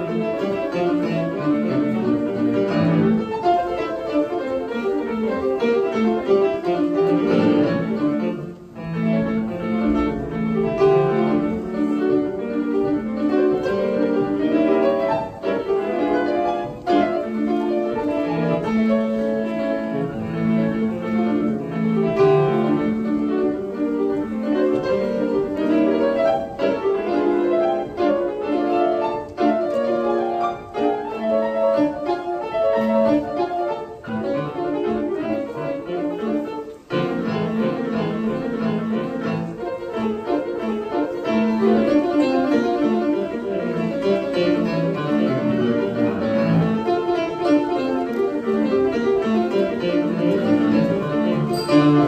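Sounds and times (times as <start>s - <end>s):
solo piano playing fast notes: 0.0s - 52.0s.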